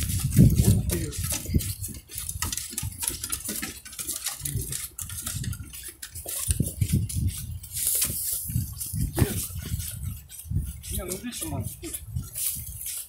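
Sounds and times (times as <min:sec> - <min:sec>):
dogs' claws clicking on planks: 0:00.0 - 0:13.0
footsteps on wooden footbridge: 0:00.0 - 0:13.0.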